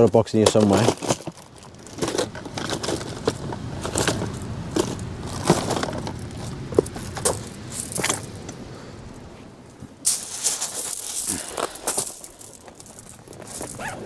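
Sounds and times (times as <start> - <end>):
hands rummaging through tackle box: 0.0 - 8.4, 10.0 - 14.0.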